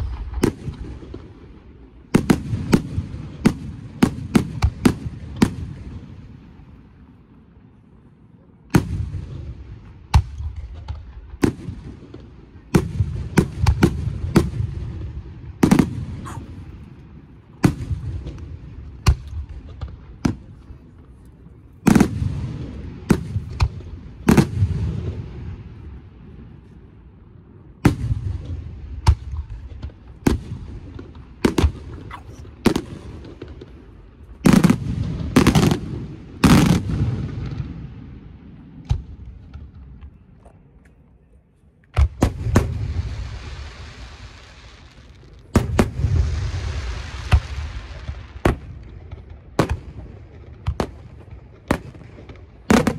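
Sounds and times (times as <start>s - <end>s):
firework bangs: 0.0s - 6.9s, 8.7s - 21.2s, 21.8s - 26.1s, 27.8s - 40.0s, 41.9s - 52.9s.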